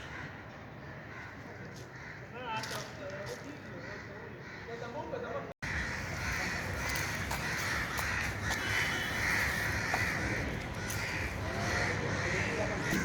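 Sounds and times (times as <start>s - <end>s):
crows cawing: 0.0s - 2.4s, 3.8s - 4.9s, 5.6s - 13.0s.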